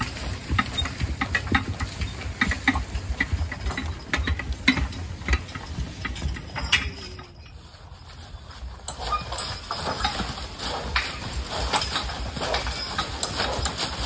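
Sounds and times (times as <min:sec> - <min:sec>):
hooves crunching on dry leaves: 0:00.0 - 0:14.0.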